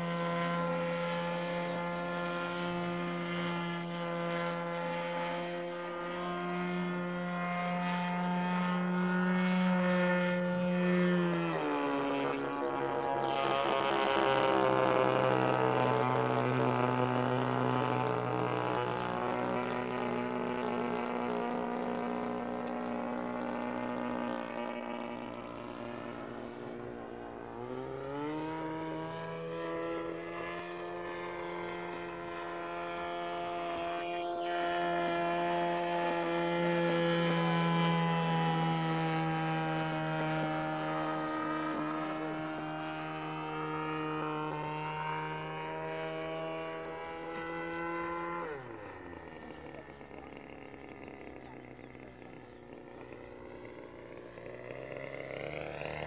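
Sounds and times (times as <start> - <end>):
model airplane engine droning: 0.0 - 56.0.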